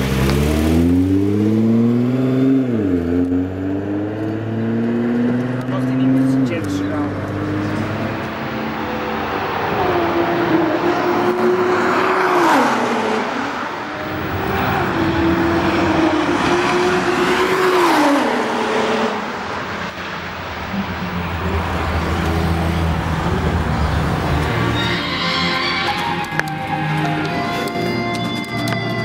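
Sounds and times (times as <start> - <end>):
car passing by at speed: 0.0 - 27.3.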